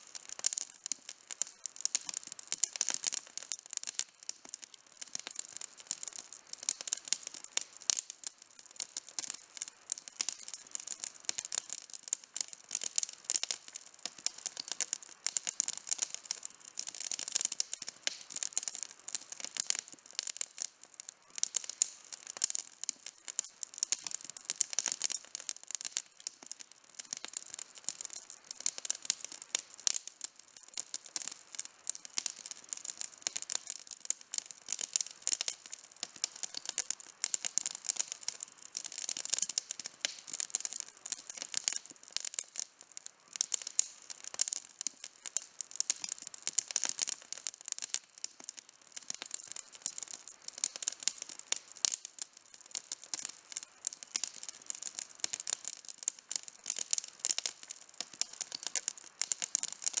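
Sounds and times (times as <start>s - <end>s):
campfire crackling: 0.0s - 60.0s.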